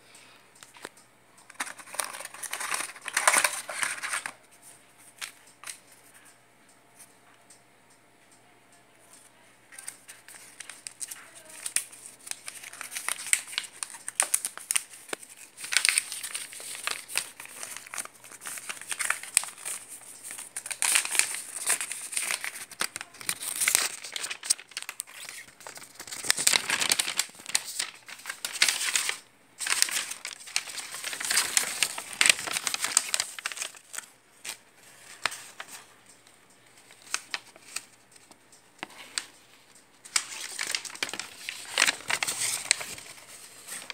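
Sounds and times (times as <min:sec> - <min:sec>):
packaging crinkling: 0:01.5 - 0:04.4, 0:09.7 - 0:36.0, 0:36.7 - 0:43.9.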